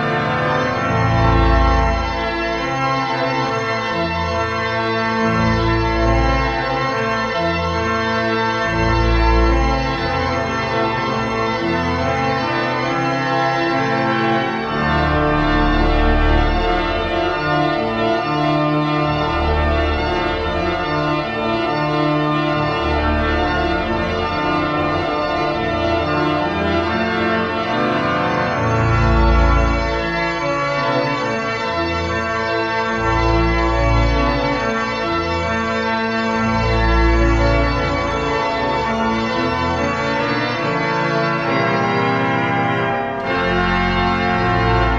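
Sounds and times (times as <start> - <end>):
pipe organ playing chords: 0.0 - 44.9.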